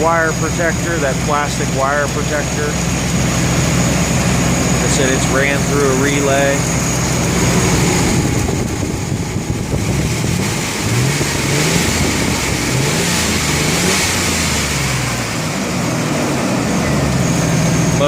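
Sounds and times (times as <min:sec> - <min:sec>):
pickup engine revving: 0:00.0 - 0:18.0.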